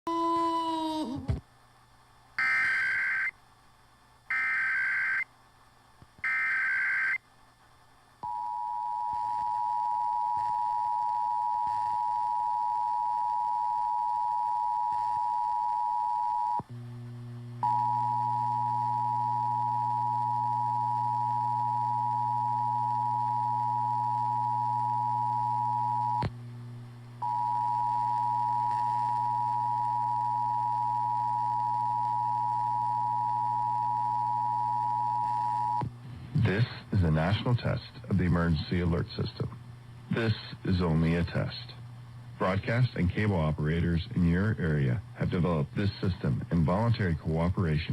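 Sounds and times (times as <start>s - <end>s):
low hum: 8.1s - 47.0s.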